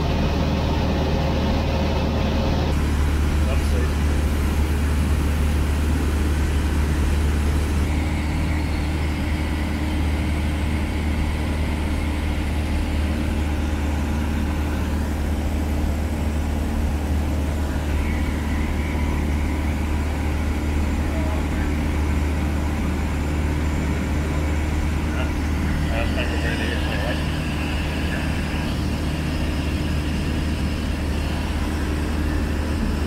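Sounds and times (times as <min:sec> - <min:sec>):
airplane engine droning: 0:00.0 - 0:33.0.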